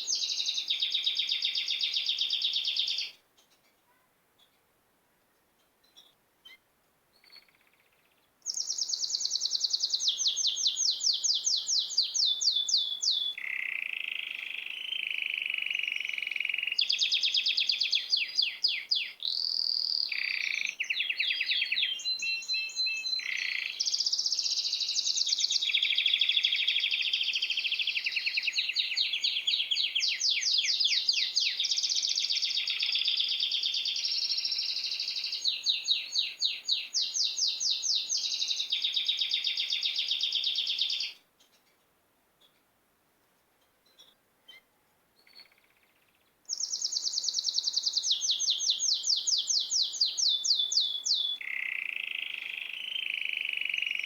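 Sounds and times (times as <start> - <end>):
songbirds chirping and trilling: 0.0 - 4.8, 5.4 - 42.7, 43.4 - 54.0.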